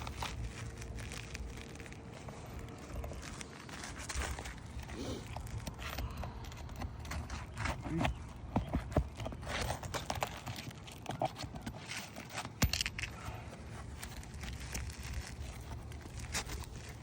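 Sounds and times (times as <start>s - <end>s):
shingles scraping and crinkling: 0.0s - 17.0s.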